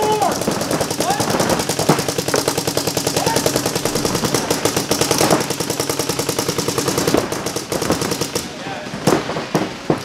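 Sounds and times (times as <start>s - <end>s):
paintball markers firing: 0.0s - 10.0s.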